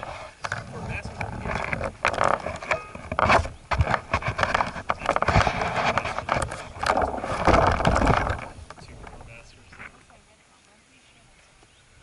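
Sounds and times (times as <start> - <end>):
model airplane scraping and knocking: 0.0 - 10.0.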